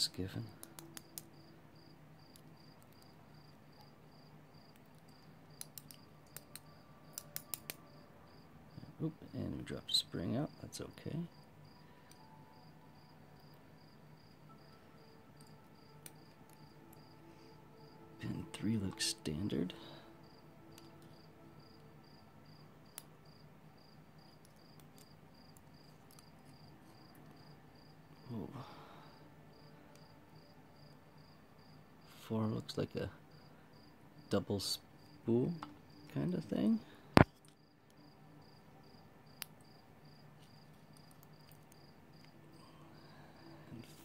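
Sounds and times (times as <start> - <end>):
cricket chirping: 0.0 - 43.8.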